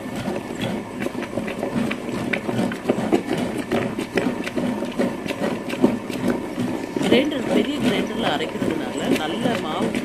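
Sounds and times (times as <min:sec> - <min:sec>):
stone wet grinder running: 0:00.0 - 0:10.0.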